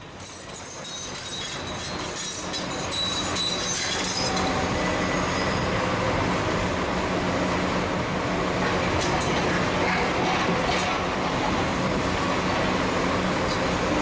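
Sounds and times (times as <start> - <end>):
excavator diesel engine working: 0.0 - 14.0.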